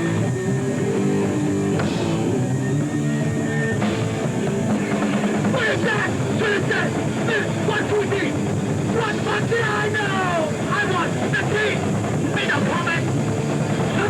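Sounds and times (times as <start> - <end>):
distorted electric guitar chords: 0.0 - 14.0
drum kit: 0.0 - 14.0.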